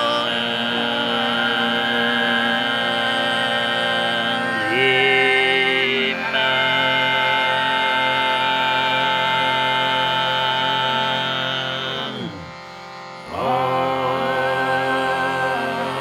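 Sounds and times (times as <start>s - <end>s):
overtone singing: 0.0s - 16.0s.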